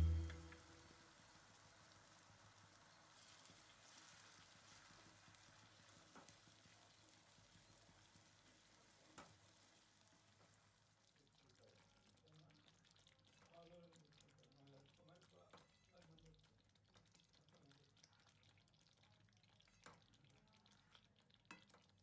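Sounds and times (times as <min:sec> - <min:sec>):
faint sizzle of food frying: 0:00.0 - 0:22.0.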